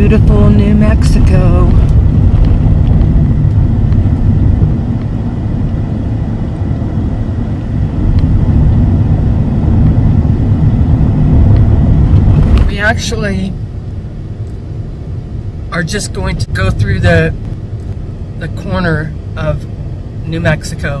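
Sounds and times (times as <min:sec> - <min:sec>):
road and engine rumble in vehicle: 0:00.0 - 0:21.0.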